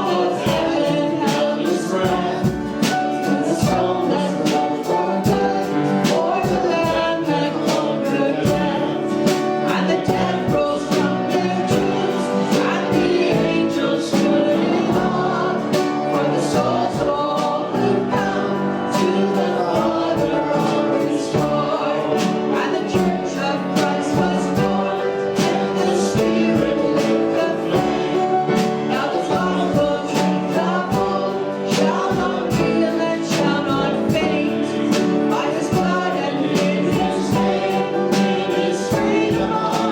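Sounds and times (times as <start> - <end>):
band playing: 0.0 - 39.9
voices singing together: 0.0 - 39.9.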